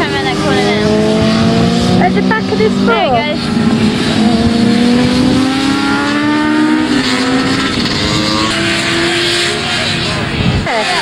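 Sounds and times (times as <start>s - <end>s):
racing motorcycle engines accelerating: 0.0s - 11.0s.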